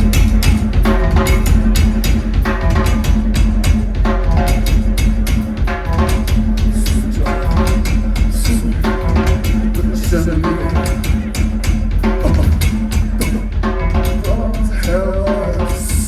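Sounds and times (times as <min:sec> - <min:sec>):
fast drum beat: 0:00.0 - 0:16.0
rock band playing live: 0:00.0 - 0:16.0.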